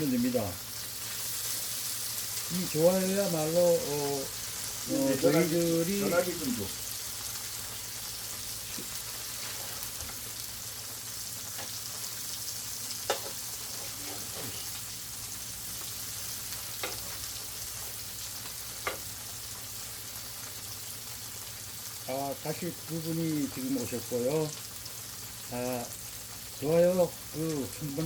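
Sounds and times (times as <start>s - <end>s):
tofu sizzling in a pan: 0.0s - 28.0s.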